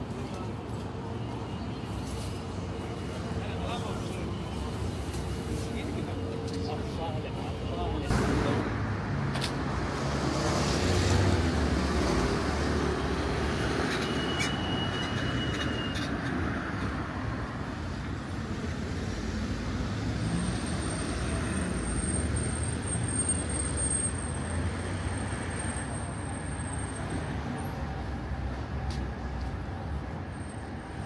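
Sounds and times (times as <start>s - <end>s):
rumble of passing traffic: 0.0s - 31.0s.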